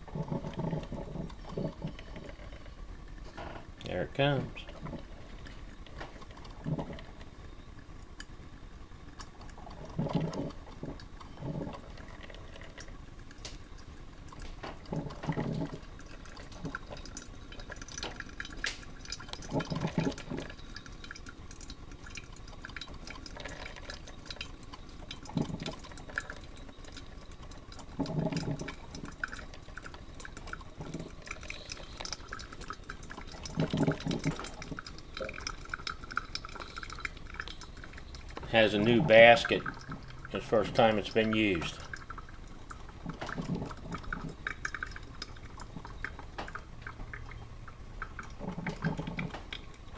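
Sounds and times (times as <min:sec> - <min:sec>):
coffee maker gurgling: 0:00.0 - 0:49.9
water dripping into coffee carafe: 0:00.0 - 0:49.9.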